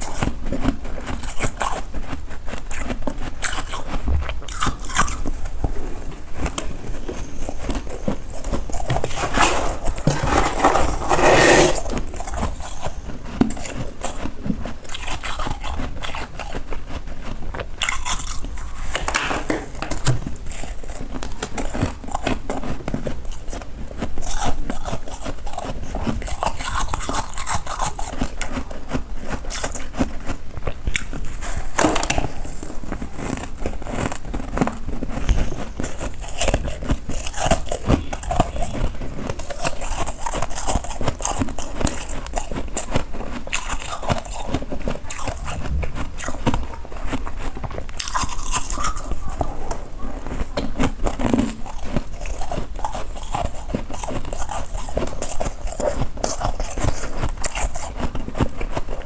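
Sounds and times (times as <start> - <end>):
freezer frost being scraped: 0.0 - 59.0.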